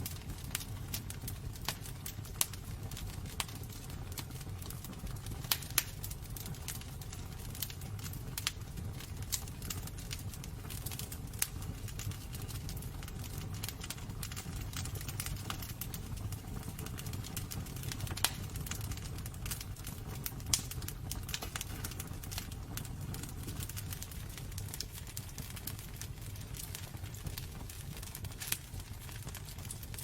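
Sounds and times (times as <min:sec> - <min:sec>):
low rumble of burning: 0:00.0 - 0:30.0
wood fire crackling: 0:00.0 - 0:30.0.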